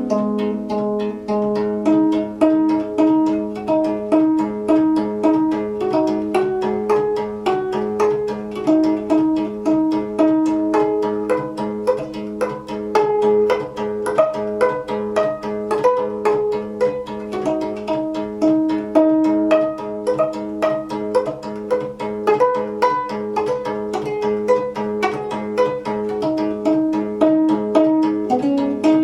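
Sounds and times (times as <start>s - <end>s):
plucked zither notes: 0.0s - 29.0s.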